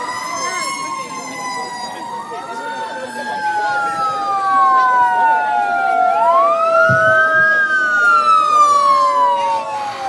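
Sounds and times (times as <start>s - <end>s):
emergency sirens wailing: 0.0s - 10.0s.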